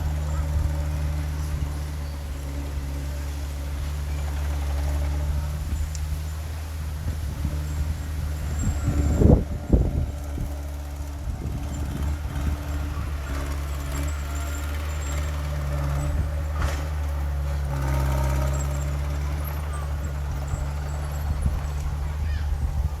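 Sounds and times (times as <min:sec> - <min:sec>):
diesel machine engine running: 0:00.0 - 0:23.0.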